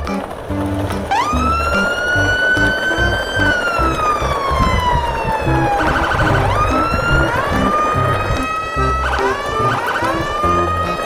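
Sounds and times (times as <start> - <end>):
choppy repeating bass line: 0.0 - 11.0
siren-like synth tone: 1.1 - 11.0.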